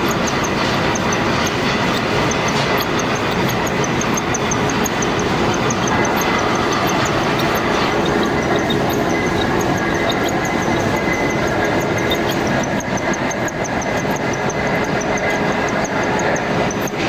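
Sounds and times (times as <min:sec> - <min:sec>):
faint high whine: 0:00.0 - 0:17.0
metal cutting machine running: 0:00.0 - 0:17.0
rapid light ticking: 0:00.0 - 0:17.0.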